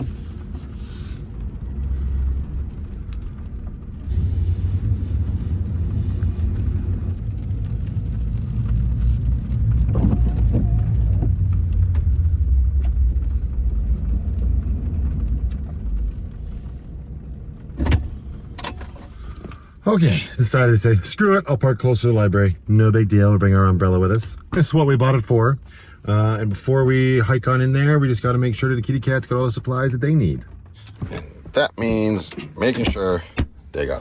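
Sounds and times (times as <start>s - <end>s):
van engine and road rumble: 0.0s - 34.0s.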